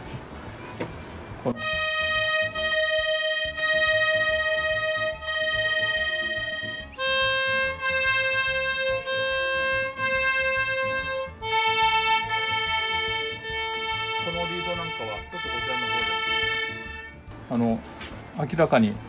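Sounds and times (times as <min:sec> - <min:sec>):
accordion reed note: 0:01.5 - 0:17.3.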